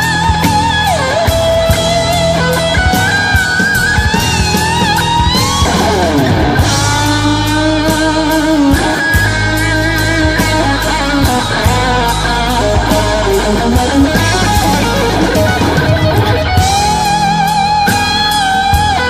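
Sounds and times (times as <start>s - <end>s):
blues-rock band playing: 0.0s - 19.0s
electric guitar lead: 0.0s - 19.0s.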